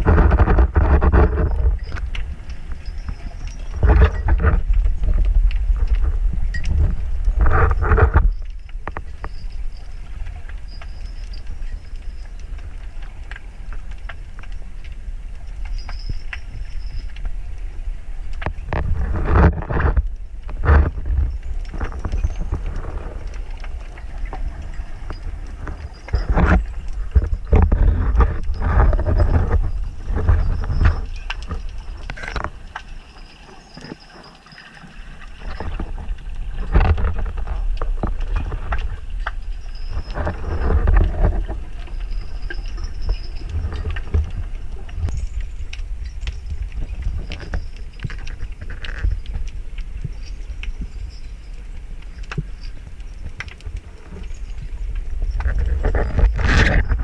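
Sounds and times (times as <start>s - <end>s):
clicks and crackles: 0.0s - 57.0s
muffled underwater rumble: 0.0s - 57.0s.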